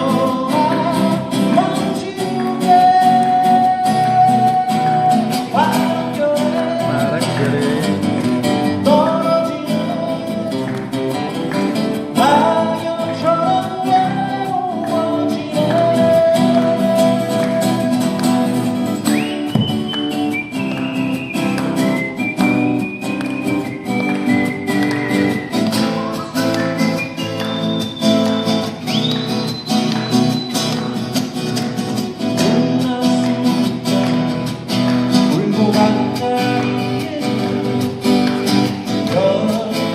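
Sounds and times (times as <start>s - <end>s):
acoustic guitars strumming: 0.0s - 39.9s.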